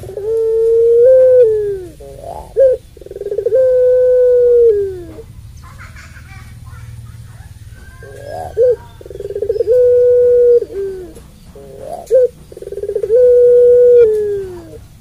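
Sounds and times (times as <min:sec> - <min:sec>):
dove cooing: 0:00.0 - 0:05.3, 0:07.4 - 0:15.0.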